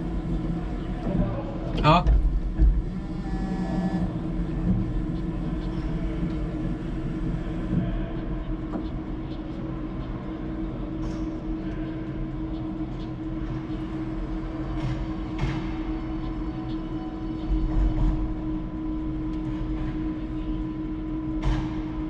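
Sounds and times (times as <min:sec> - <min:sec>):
machine hum with low rumble: 0:00.0 - 0:22.0.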